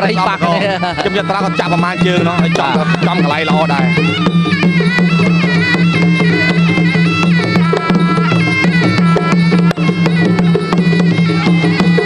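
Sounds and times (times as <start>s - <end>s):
hand drums beating: 0.0s - 12.0s
reedy wind instrument melody: 0.0s - 12.0s.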